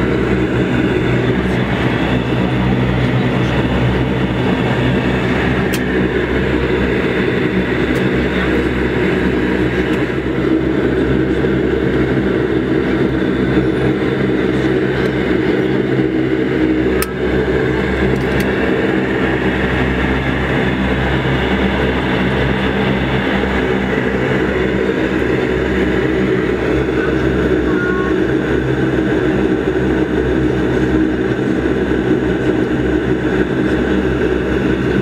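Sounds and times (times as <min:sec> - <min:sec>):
turboprop engines droning: 0:00.0 - 0:35.0.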